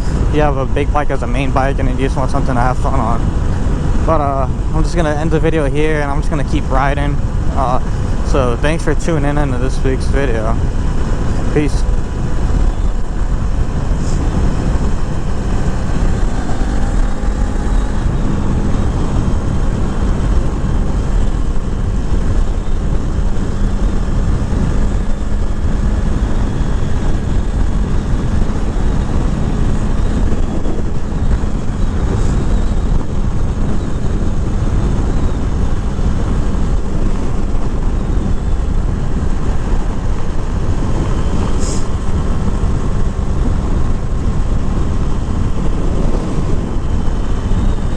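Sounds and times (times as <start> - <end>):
motorcycle engine running: 0.0 - 47.9
wind noise: 0.0 - 47.9.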